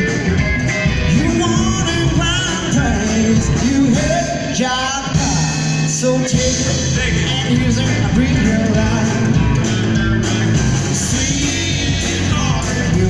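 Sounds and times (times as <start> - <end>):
bass guitar: 0.0 - 13.0
drums: 0.0 - 13.0
electric guitar: 0.0 - 13.0
man singing lead vocal: 0.0 - 13.0.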